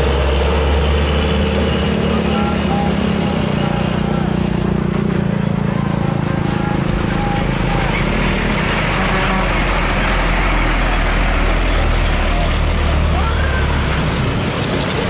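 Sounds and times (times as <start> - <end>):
truck diesel engine: 0.0 - 15.0
tyre and road noise: 0.0 - 15.0.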